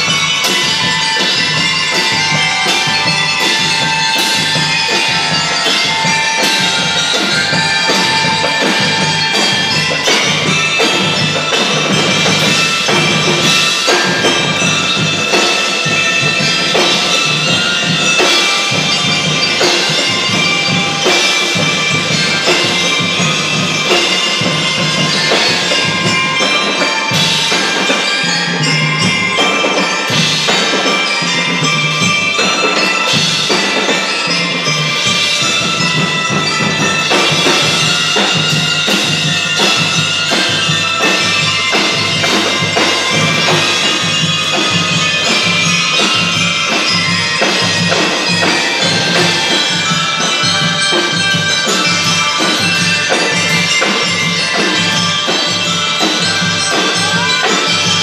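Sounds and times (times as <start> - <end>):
bell lyres playing melody: 0.0 - 58.0
marching drums and cymbals: 0.0 - 58.0.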